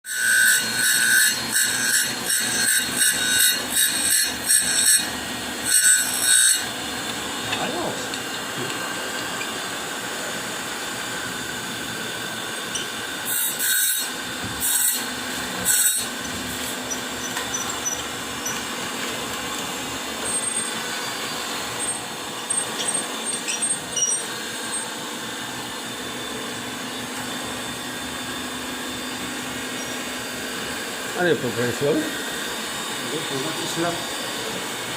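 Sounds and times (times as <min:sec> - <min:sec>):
grinding wheel on steel: 0:00.1 - 0:10.4, 0:12.1 - 0:25.6, 0:29.1 - 0:34.6.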